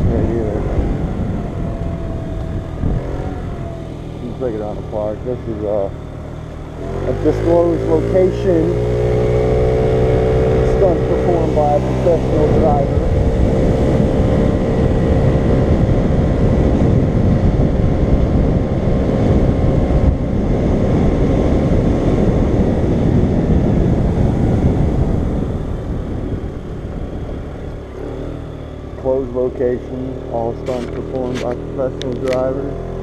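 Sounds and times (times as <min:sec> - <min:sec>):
scooter engine running: 0:00.0 - 0:33.0
wind buffeting microphone: 0:00.0 - 0:33.0.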